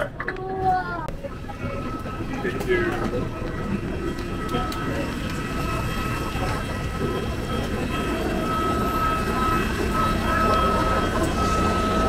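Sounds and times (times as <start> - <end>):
jet machinery humming with whine: 1.0 - 12.0.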